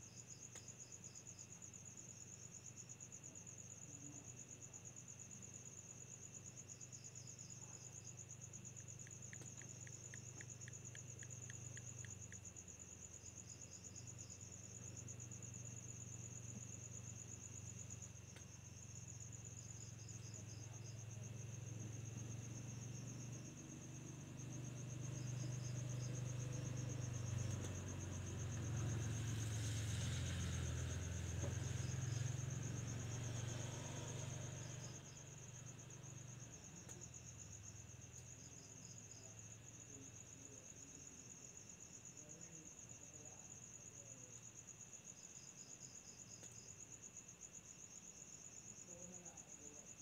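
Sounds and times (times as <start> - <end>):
crickets trilling: 0.0 - 50.0
insect chirps: 0.0 - 50.0.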